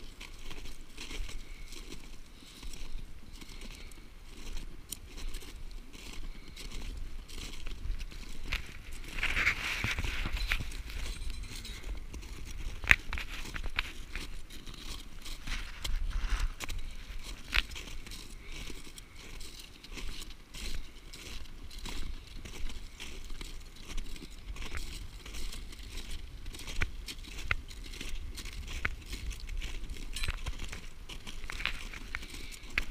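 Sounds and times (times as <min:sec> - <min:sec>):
footsteps crunching on ice: 0:00.0 - 0:32.9.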